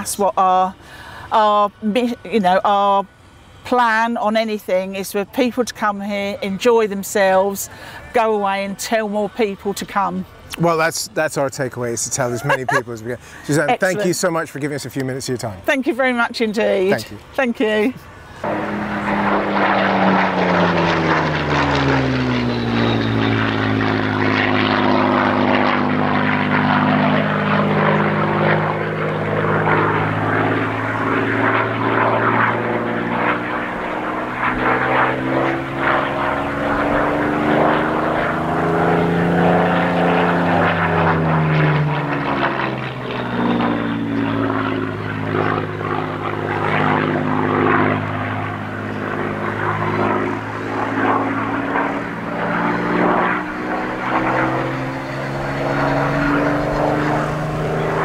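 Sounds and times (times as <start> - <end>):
propeller plane engine flying overhead: 0.0 - 58.0.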